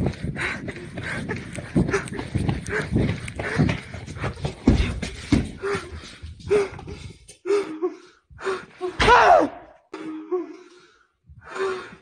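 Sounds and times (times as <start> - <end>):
man gasping and panting: 0.0 - 9.1, 9.9 - 12.0.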